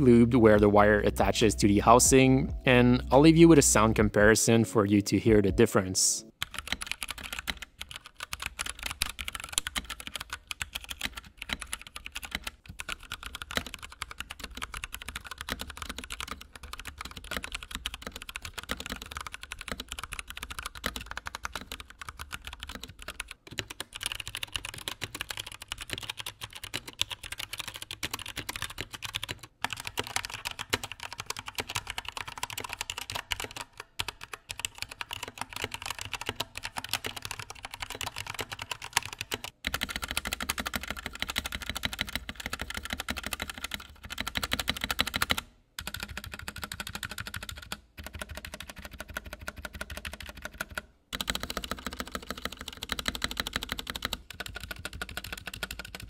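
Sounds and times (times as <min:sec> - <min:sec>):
fast typing on mechanical keyboard: 0:06.4 - 0:56.0.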